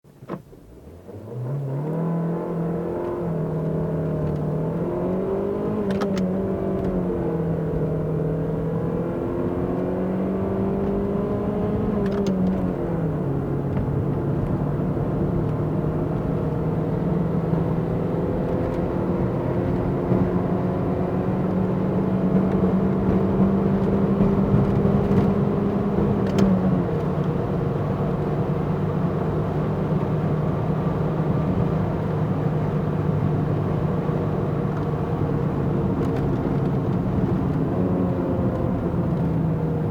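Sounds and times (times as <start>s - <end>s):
car engine accelerating through gears: 0.2s - 39.9s.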